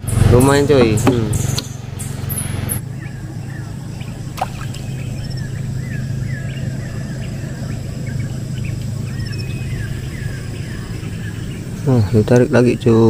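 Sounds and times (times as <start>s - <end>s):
short chirping calls: 0.0s - 13.0s
steady low hum: 0.0s - 13.0s.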